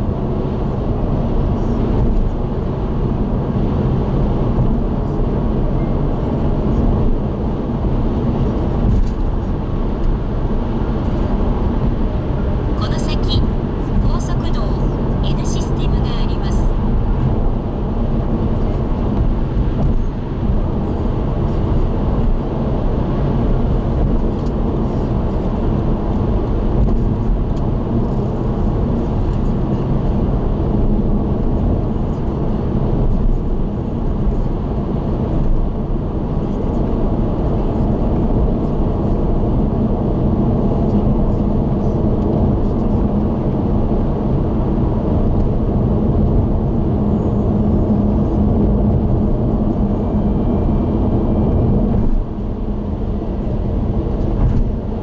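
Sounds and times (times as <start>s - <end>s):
car driving at speed: 0.0s - 55.0s.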